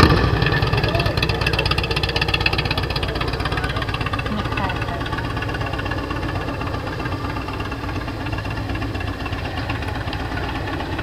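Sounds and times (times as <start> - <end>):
motorcycle engine low rumble: 0.0 - 11.0.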